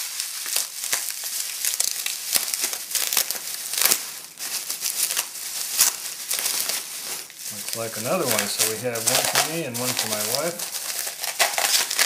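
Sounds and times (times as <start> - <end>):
newspaper rustling and crinkling: 0.0 - 12.0.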